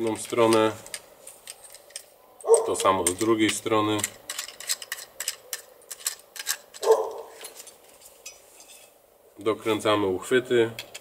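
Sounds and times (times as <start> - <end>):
metal parts clicking and clinking: 0.0 - 9.0, 10.7 - 11.0.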